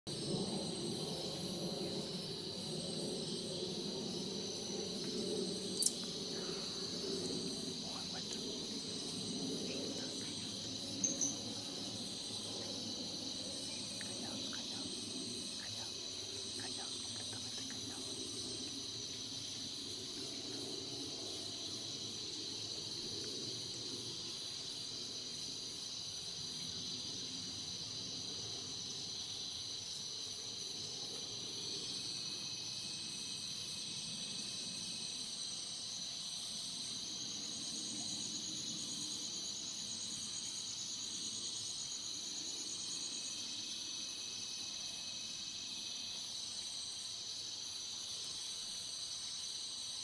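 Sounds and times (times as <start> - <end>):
crickets trilling: 0.1 - 50.0
higher insect calls: 0.1 - 50.0.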